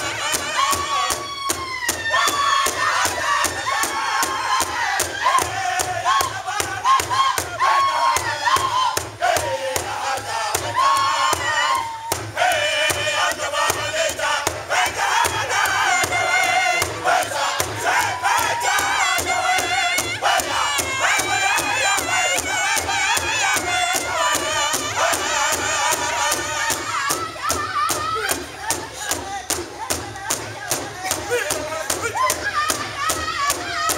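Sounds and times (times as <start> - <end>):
drum group singing high-pitched: 0.0 - 33.9
large drum struck with sticks: 0.2 - 33.9.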